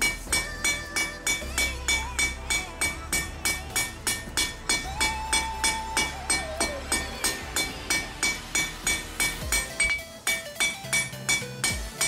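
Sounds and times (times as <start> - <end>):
hammer striking steel on anvil: 0.0 - 12.0.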